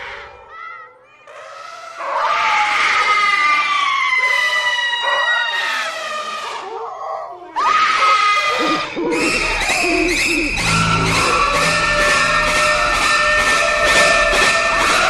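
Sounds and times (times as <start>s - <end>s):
high wailing cry: 0.0s - 15.0s.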